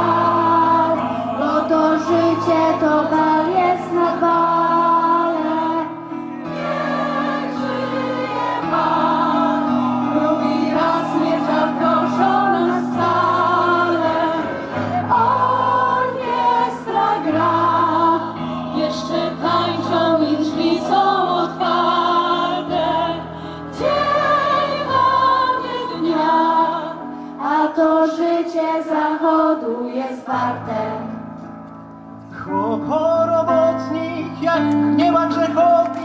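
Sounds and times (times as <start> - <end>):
choir singing in harmony: 0.0 - 31.4.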